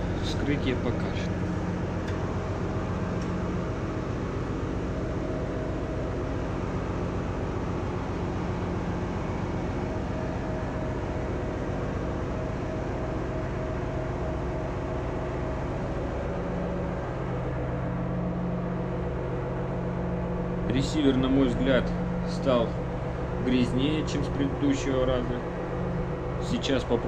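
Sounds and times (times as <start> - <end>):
ship engine machinery droning: 0.0 - 27.0.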